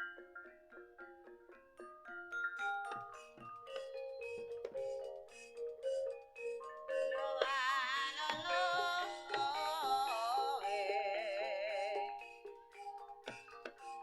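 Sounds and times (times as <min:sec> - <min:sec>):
metallophone notes ringing: 0:00.0 - 0:14.0.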